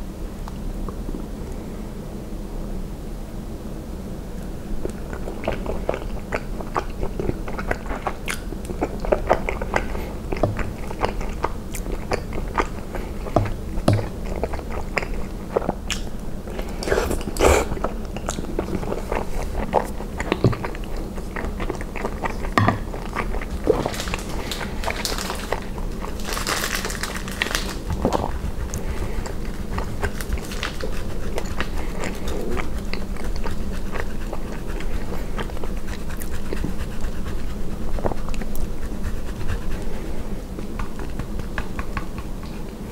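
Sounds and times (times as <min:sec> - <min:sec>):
close chewing and biting: 0:04.8 - 0:42.9.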